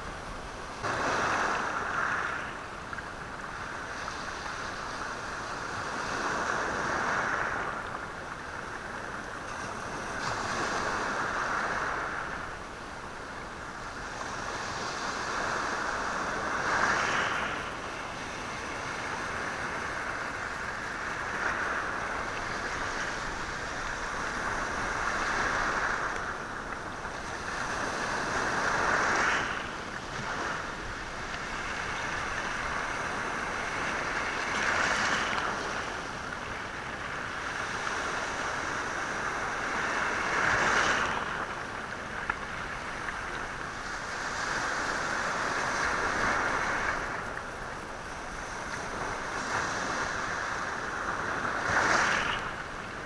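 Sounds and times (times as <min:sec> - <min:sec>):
sea waves on stony shore: 0:00.0 - 0:53.0.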